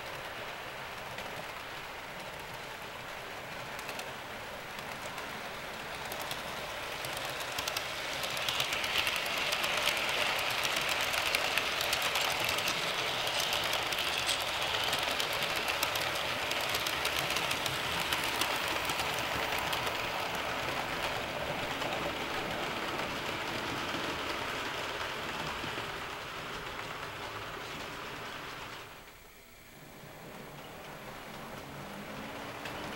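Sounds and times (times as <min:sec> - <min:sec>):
model train wheels rattling: 0:00.0 - 0:29.2, 0:30.0 - 0:32.9.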